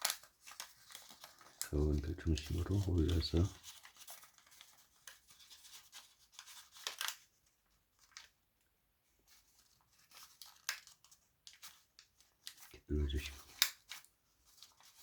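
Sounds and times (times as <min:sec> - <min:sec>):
sharp paper crackles: 0:00.0 - 0:08.4, 0:09.1 - 0:15.0
paper rustling and crinkling: 0:00.0 - 0:15.0.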